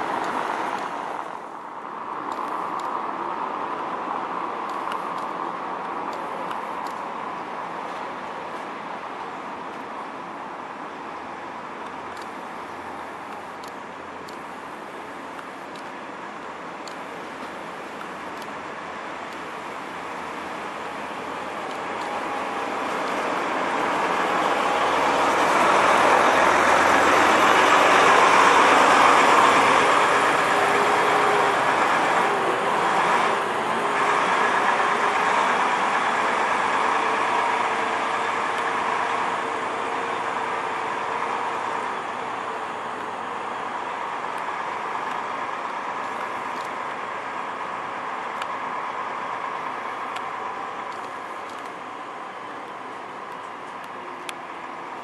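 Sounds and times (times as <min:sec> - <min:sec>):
coach diesel engine: 0:00.0 - 0:55.0.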